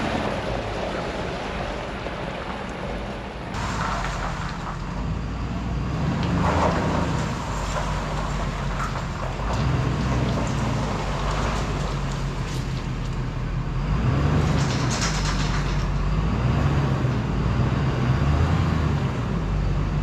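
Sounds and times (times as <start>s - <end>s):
road and rattle noise: 0.0s - 20.0s.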